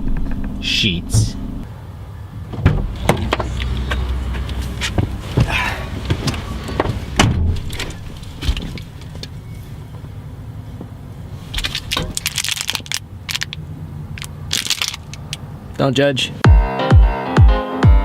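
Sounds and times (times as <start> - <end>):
steady low car hum: 0.0 - 16.5.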